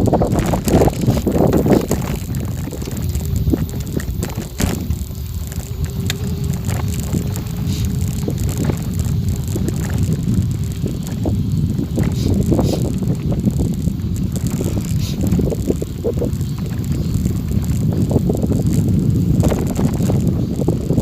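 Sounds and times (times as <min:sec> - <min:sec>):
faint steady hum: 0:00.0 - 0:21.0
wind rumbling on microphone: 0:00.0 - 0:21.0.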